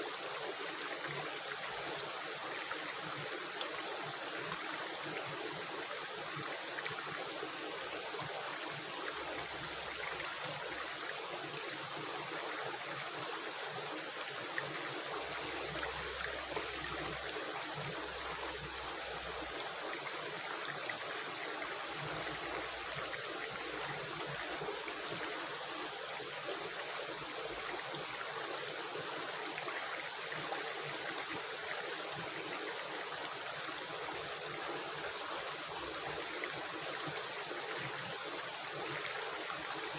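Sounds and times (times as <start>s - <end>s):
stream water rushing and gurgling: 0.0s - 39.9s.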